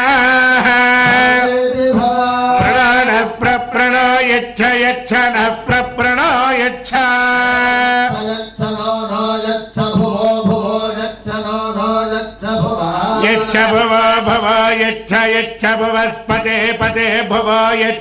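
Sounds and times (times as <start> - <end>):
person chanting mantras: 0.0 - 18.0.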